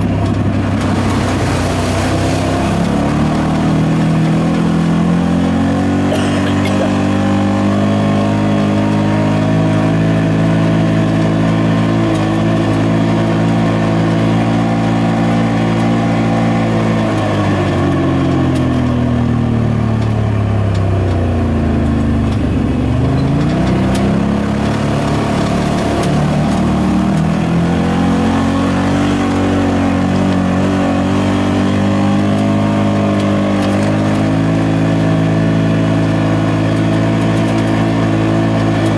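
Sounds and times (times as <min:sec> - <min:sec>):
utility vehicle engine running: 0:00.0 - 0:38.9.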